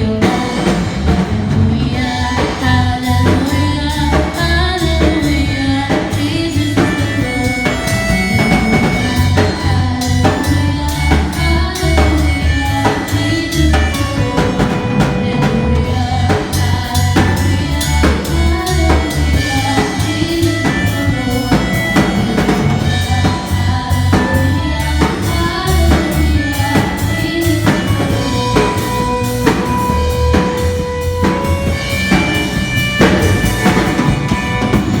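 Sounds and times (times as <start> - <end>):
bass line: 0.0 - 35.0
drum kit beat: 0.0 - 35.0
person singing: 0.0 - 35.0.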